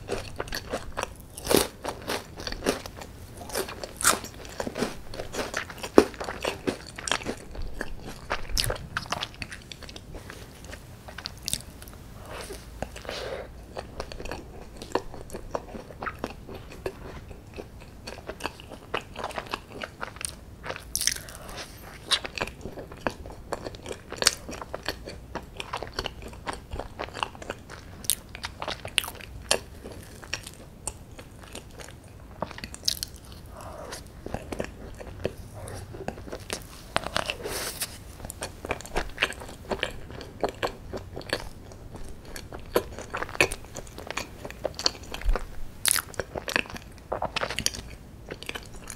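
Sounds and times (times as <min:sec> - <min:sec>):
person chewing: 0:00.0 - 0:48.9.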